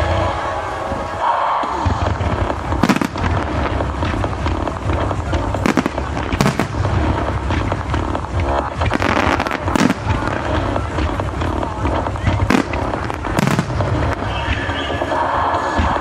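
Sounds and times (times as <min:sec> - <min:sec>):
recorded music with steady beat: 0:00.0 - 0:16.0
fireworks exploding: 0:01.6 - 0:16.0.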